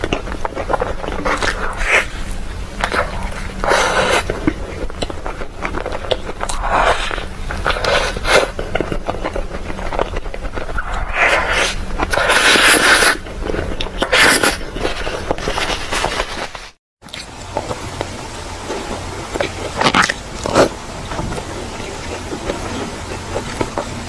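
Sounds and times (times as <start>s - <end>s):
chewing crunchy sweets: 0.0s - 24.0s.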